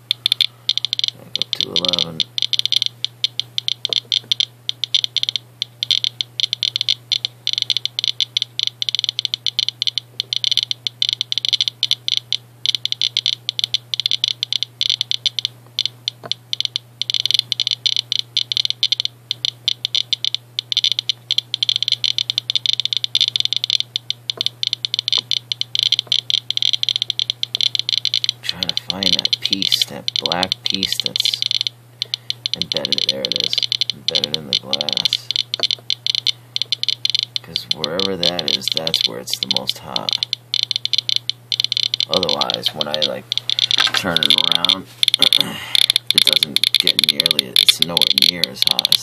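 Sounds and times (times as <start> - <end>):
geiger counter clicking rapidly: 0.0 - 49.0
steady low hum: 0.0 - 49.0.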